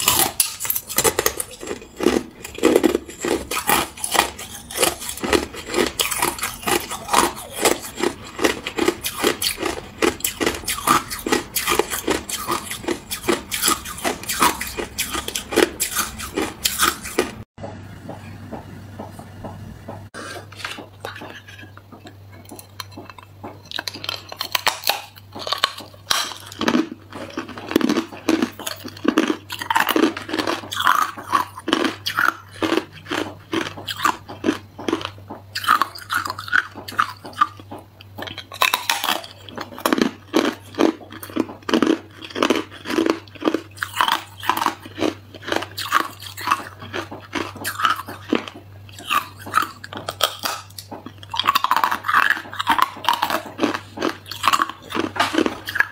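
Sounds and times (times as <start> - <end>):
ice crunching between teeth: 0.0 - 17.5, 22.5 - 55.9.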